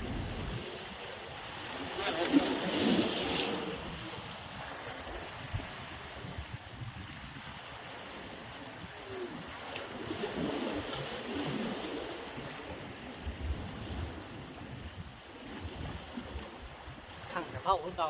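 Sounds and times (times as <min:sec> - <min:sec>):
sea surf washing on beach: 0:00.0 - 0:18.0
wind buffeting microphone: 0:00.0 - 0:18.0.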